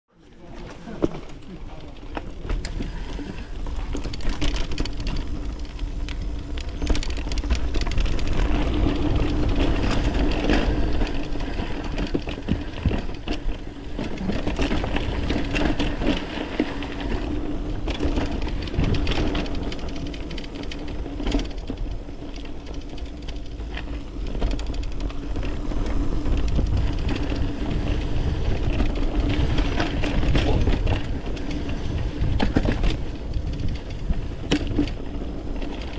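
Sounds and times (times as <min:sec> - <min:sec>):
bike rattling over rough ground: 0:00.1 - 0:35.9
low rumble: 0:00.4 - 0:35.9.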